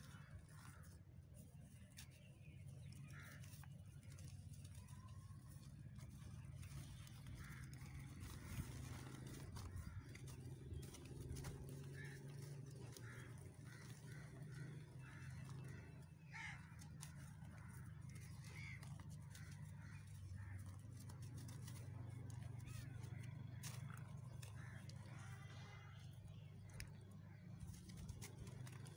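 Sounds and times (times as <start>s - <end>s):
birds calling: 0.0s - 28.9s
steady low hum: 0.0s - 28.9s.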